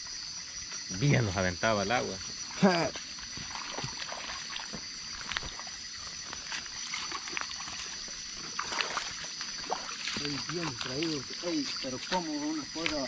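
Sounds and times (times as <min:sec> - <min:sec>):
night insects trilling: 0:00.0 - 0:13.0
faint trickling water: 0:02.4 - 0:13.0
small splashes: 0:02.5 - 0:13.0.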